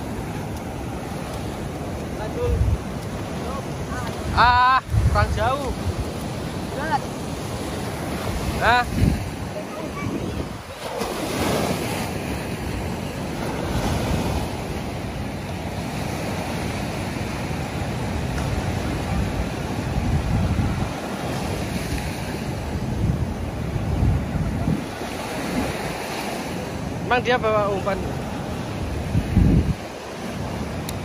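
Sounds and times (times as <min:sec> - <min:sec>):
wind buffeting microphone: 0:00.0 - 0:27.0, 0:28.0 - 0:31.0
ocean surf breaking on beach: 0:00.0 - 0:31.0.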